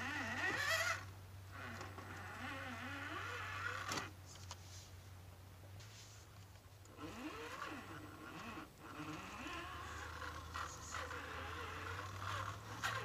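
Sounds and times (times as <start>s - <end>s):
faint electric motor whine: 0.0s - 5.0s, 5.8s - 13.0s.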